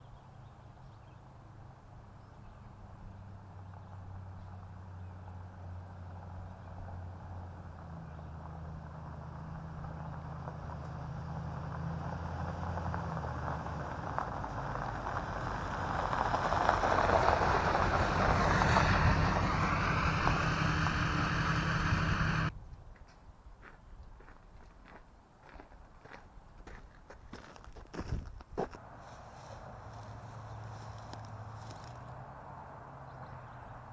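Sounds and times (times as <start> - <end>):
vehicle engine passing by: 0.4 - 22.5, 28.8 - 33.9.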